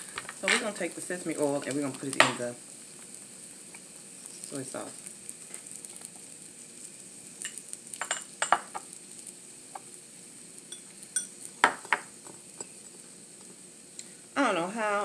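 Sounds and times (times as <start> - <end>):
faint sizzle from grill pan: 0.0 - 15.0.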